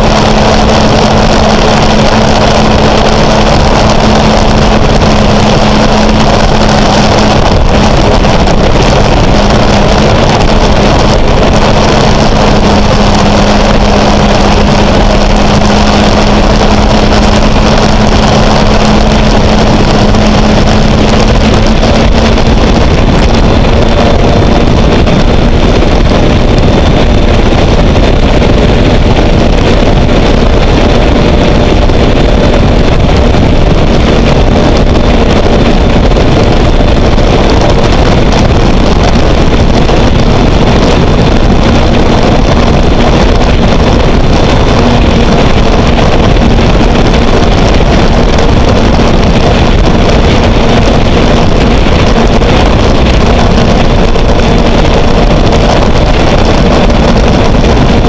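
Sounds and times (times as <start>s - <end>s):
gas turbine boat engine whining: 0.0s - 58.0s
lower hum: 0.0s - 58.0s.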